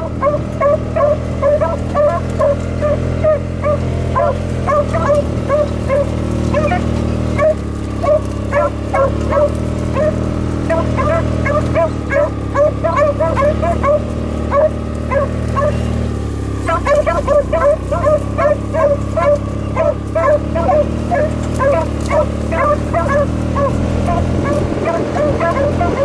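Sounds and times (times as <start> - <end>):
dogs baying in high yelps: 0.0 - 26.0
utility vehicle engine humming: 0.0 - 26.0.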